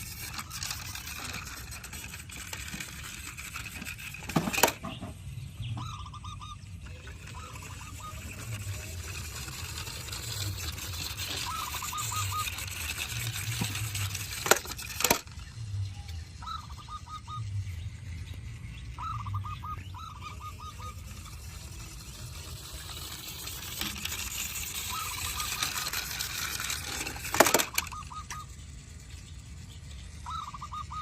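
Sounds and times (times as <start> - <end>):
quick repeated bird calls: 0.0 - 15.6, 16.3 - 17.8, 18.8 - 28.7, 30.0 - 31.0.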